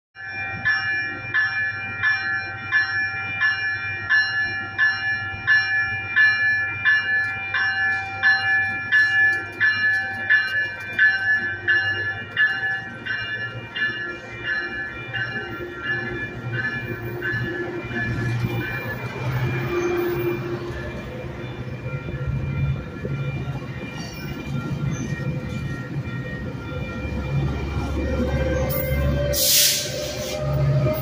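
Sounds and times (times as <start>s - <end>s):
train bell clanging: 0.2s - 31.0s
train running slowly: 0.2s - 31.0s.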